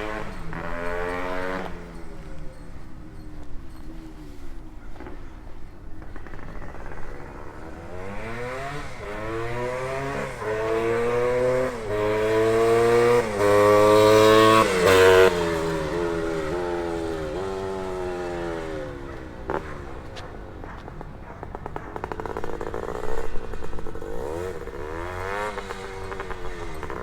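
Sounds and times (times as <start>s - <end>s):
motorcycle accelerating through gears: 0.0s - 4.6s, 6.0s - 27.0s.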